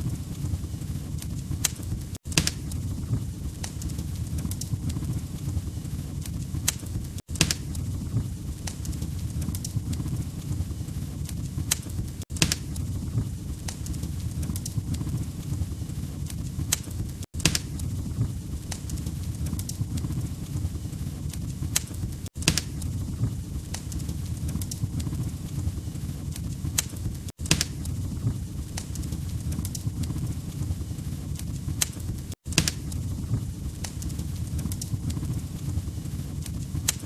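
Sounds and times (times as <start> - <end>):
low fire roar: 0.0 - 37.0
wood fire crackling: 0.0 - 37.0.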